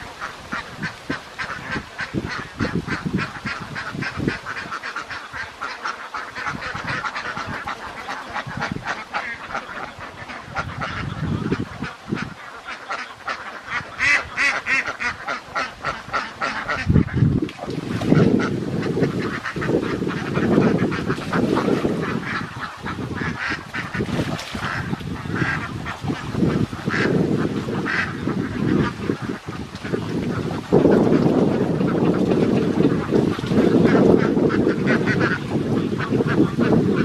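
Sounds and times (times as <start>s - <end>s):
flock of ducks quacking: 0.0s - 37.0s.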